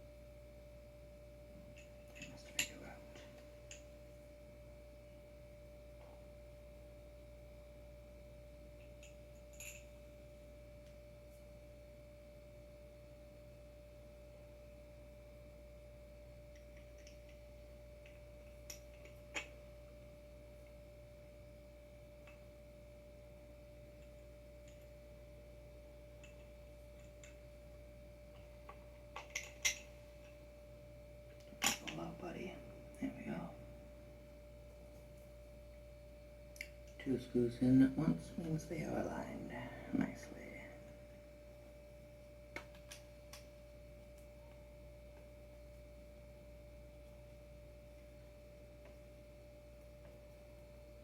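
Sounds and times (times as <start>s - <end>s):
faint electrical whine: 0.0s - 51.0s.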